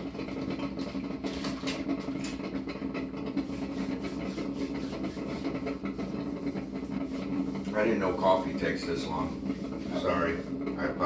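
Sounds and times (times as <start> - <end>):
coffee maker humming: 0.0 - 11.0.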